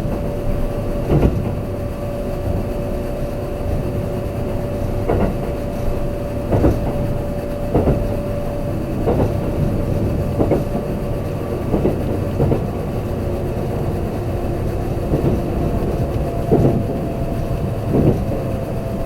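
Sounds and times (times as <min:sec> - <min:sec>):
wheels clacking over rail joints: 0:00.0 - 0:03.0, 0:03.7 - 0:19.0
train motor hum: 0:00.0 - 0:19.0
train rumbling at speed: 0:00.0 - 0:19.0.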